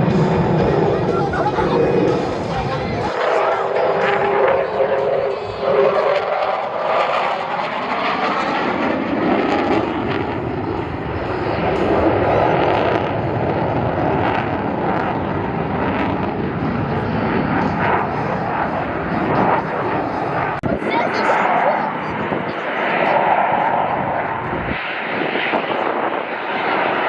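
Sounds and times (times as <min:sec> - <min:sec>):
fighter jet rushing noise: 0:00.0 - 0:27.0.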